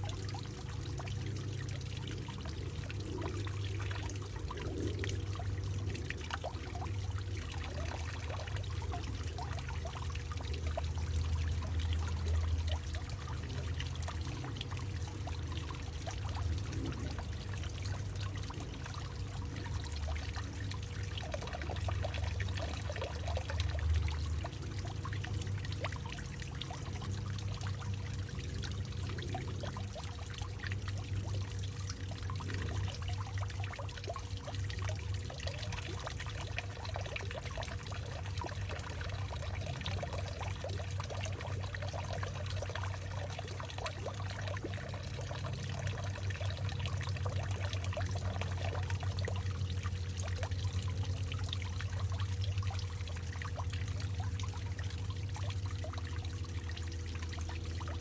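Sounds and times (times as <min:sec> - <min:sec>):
small splashes: 0:00.0 - 0:58.0
water pouring and trickling: 0:00.0 - 0:58.0.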